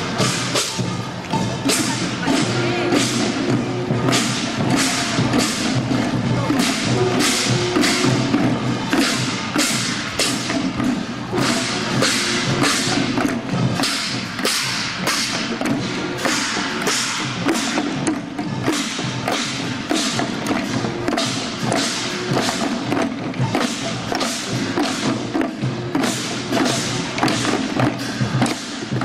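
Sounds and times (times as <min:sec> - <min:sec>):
hand drums beating: 0:00.0 - 0:29.0.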